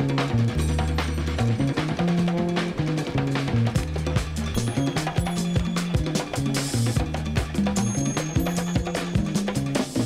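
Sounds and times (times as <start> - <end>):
hip hop drum beat: 0.0 - 10.0
stepping bass line: 0.0 - 10.0.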